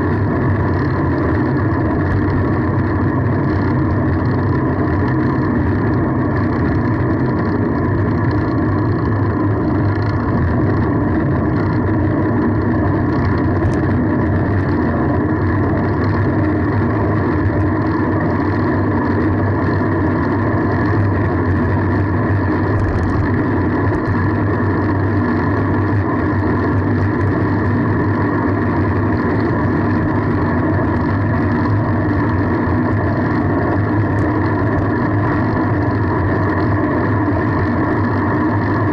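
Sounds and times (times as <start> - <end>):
bicycle road noise: 0.0 - 38.9.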